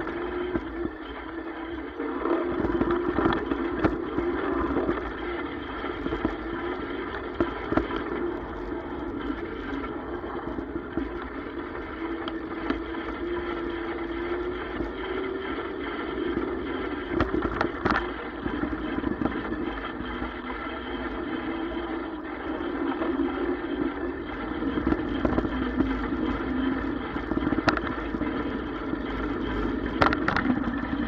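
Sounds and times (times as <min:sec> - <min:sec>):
electric bike motor humming: 0:00.0 - 0:31.0.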